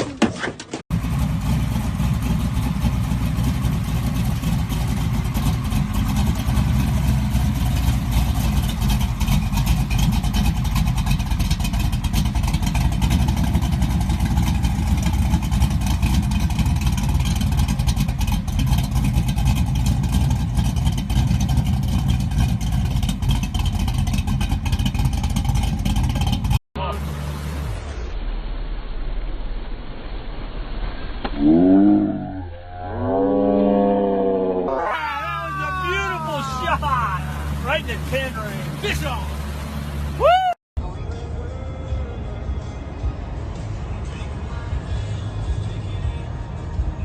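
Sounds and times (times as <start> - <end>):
truck engine running: 0.9 - 31.4, 33.9 - 47.0.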